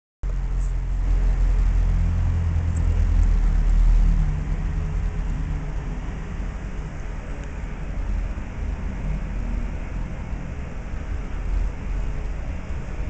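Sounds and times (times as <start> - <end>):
faint hum: 0.2 - 13.0
low rumble: 0.2 - 13.0.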